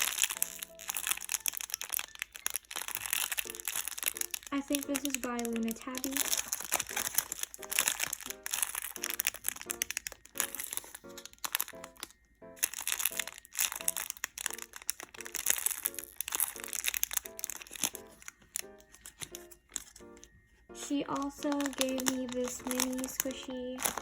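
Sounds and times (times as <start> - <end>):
light background music: 0.0 - 24.0
plastic packaging crinkling: 0.0 - 24.0.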